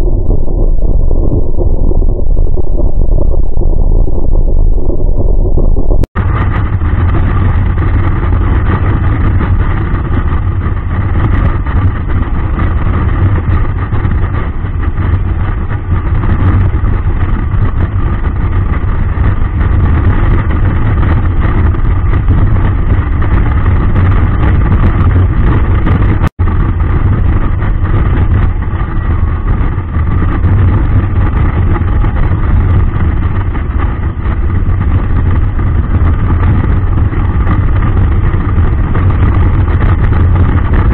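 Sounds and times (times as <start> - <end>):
wind rushing: 0.0 - 40.9.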